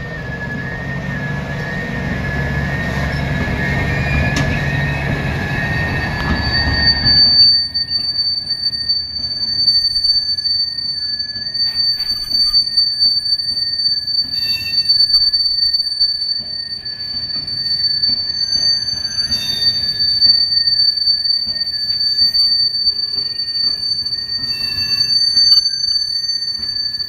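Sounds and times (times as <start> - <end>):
low rumble of wagons: 0.0 - 27.0
train wheels squealing: 0.0 - 27.0
wheels scraping: 0.0 - 27.0.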